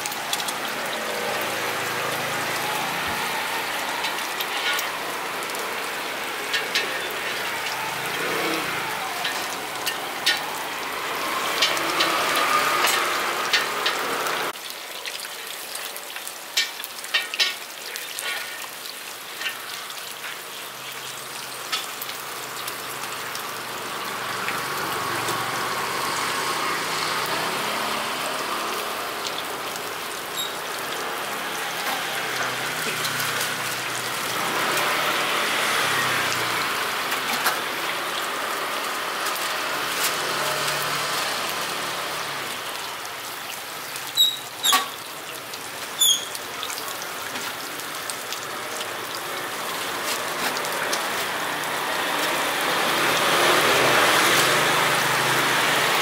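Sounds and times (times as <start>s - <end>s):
dough sizzling in hot oil: 0.0s - 56.0s.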